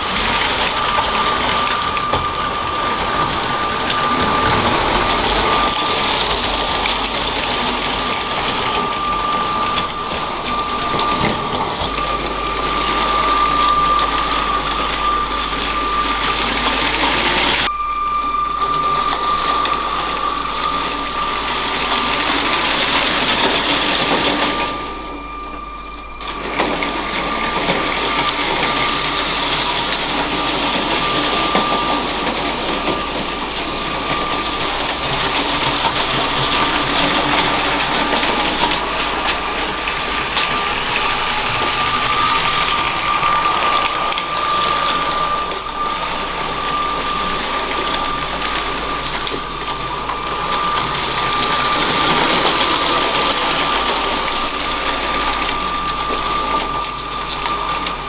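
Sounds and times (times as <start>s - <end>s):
wheels rattling on plastic track: 0.0s - 17.7s, 18.4s - 58.0s
toy train motor whine: 0.0s - 58.0s.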